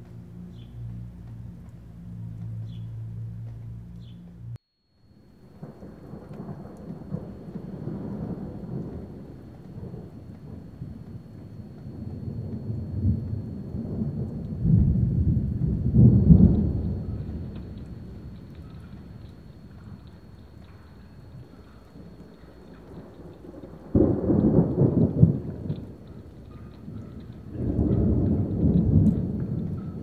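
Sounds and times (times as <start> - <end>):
thunder rumbling: 0.0 - 30.0.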